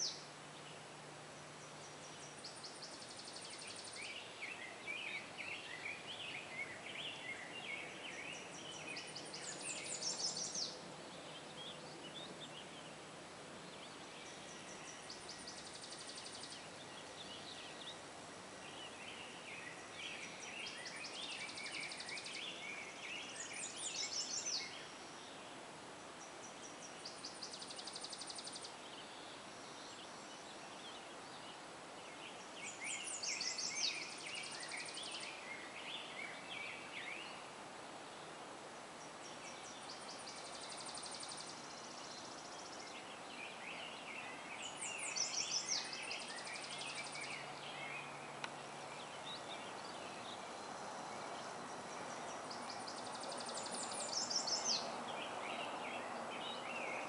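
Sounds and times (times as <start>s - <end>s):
songbirds trilling and chirping: 0.0s - 57.0s.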